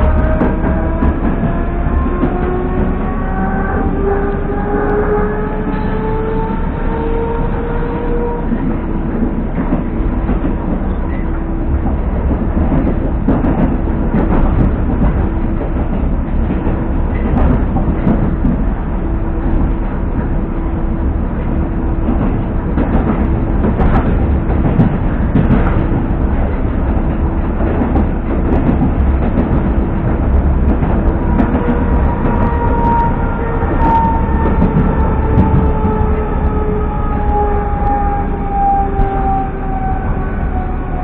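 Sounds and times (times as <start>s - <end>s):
constant low hum: 0.0s - 41.0s
train wheels rumbling: 0.0s - 41.0s.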